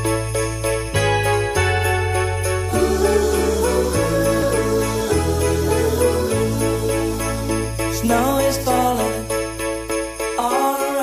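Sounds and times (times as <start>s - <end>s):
festive music: 0.0s - 11.0s
sleigh bells shaking in rhythm: 0.0s - 11.0s.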